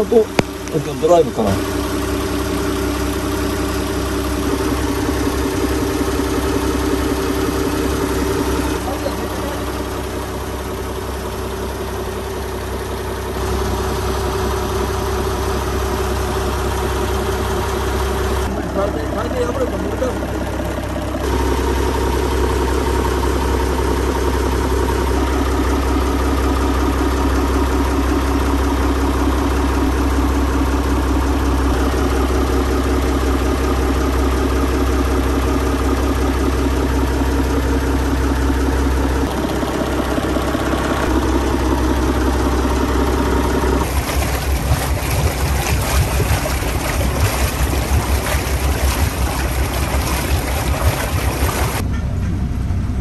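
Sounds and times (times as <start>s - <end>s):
water gushing from exhaust: 0.0s - 39.3s, 39.9s - 51.8s
diesel boat engine running: 0.0s - 53.0s.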